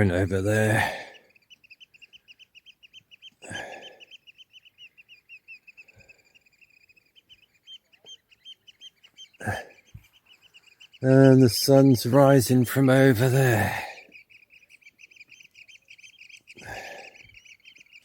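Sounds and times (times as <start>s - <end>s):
bird piping calls: 0.0s - 18.0s.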